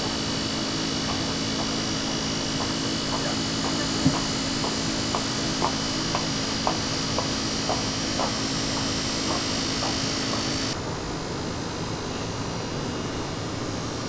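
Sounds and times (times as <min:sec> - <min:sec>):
cotton candy machine humming: 0:00.0 - 0:14.0.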